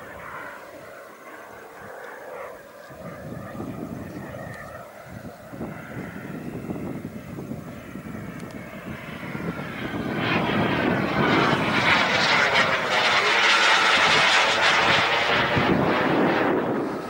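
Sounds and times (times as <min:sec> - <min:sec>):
model jet engine rushing past: 0:00.0 - 0:17.0.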